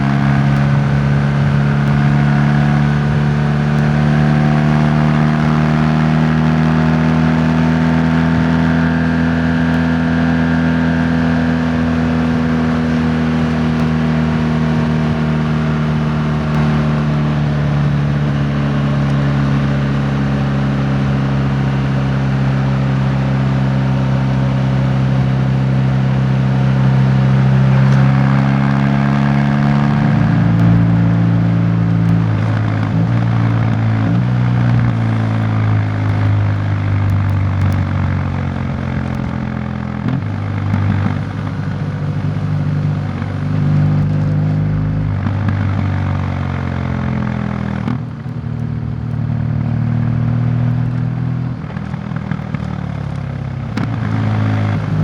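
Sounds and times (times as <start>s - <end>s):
road and wind noise: 0.0s - 55.0s
vehicle engine hum: 0.0s - 55.0s.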